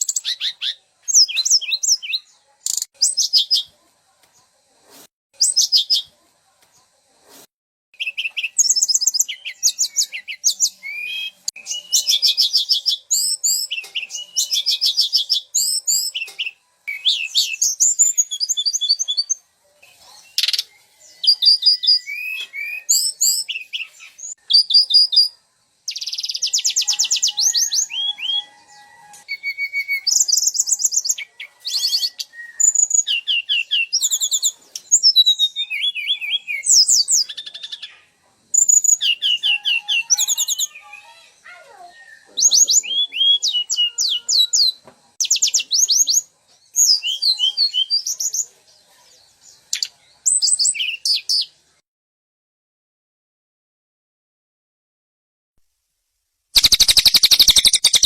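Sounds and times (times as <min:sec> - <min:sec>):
songbird singing trills: 0:00.0 - 0:03.7, 0:08.0 - 0:48.5, 0:49.6 - 0:51.5, 0:56.6 - 0:58.0.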